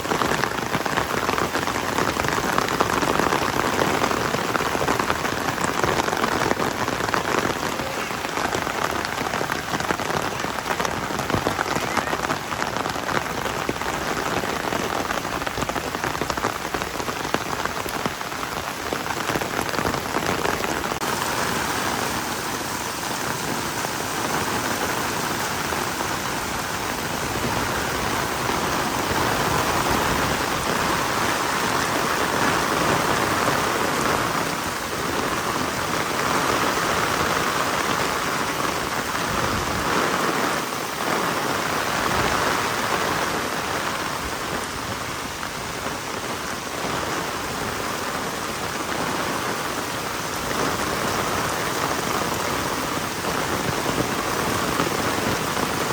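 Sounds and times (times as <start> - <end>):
heavy rain hiss: 0.0 - 55.9.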